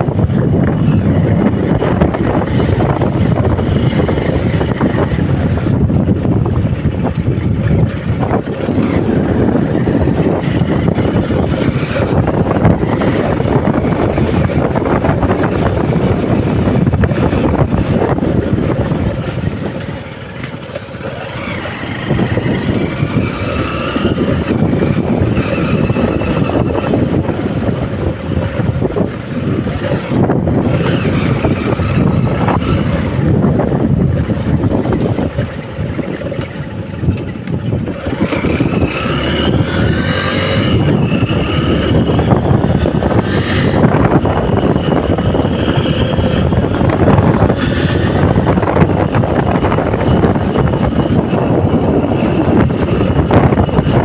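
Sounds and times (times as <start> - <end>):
road noise from moving vehicle: 0.0 - 54.0
wind rushing over microphone: 0.0 - 54.0.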